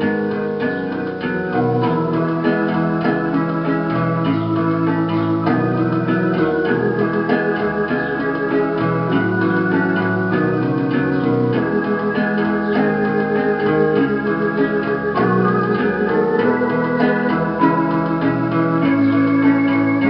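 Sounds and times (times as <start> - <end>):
electronic organ playing: 0.0 - 20.0.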